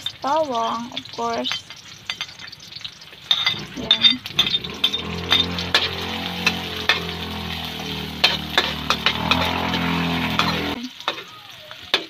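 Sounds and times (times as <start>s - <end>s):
onion and garlic sizzling in oil: 0.0s - 12.0s
metal spatula scraping a wok: 1.5s - 11.3s.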